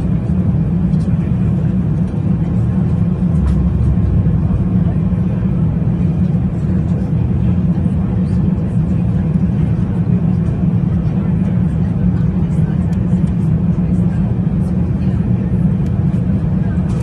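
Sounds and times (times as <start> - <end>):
airplane cabin rumble in flight: 0.0 - 17.0.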